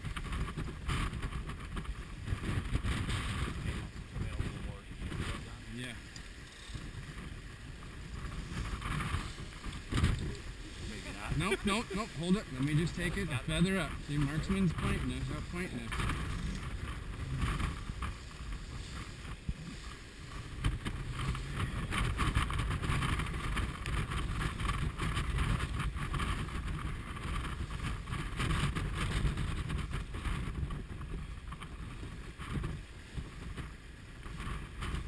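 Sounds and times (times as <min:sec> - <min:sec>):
water rushing past hull: 0:00.0 - 0:35.0
wind buffeting microphone: 0:00.0 - 0:35.0.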